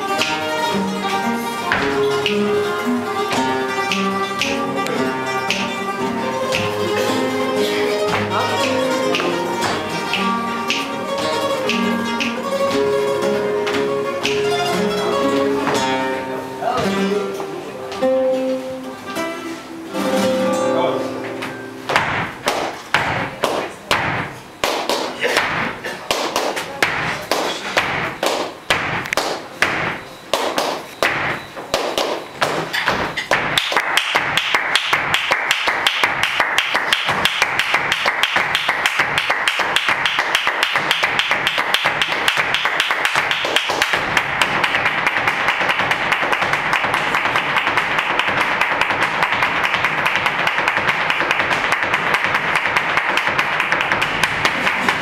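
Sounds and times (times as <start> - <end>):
dance shoes striking stage: 0.0 - 16.1, 21.4 - 55.0.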